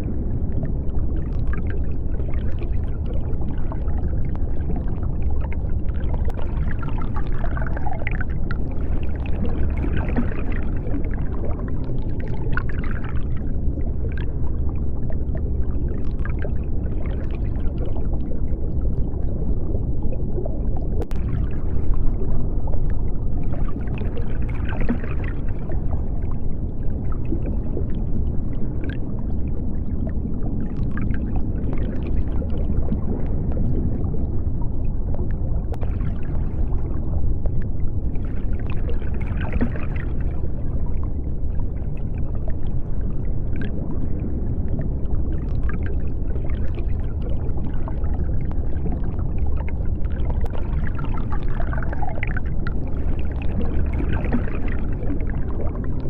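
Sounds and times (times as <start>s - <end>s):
bubbling: 0.0s - 56.0s
deep underwater rumble: 0.0s - 56.0s.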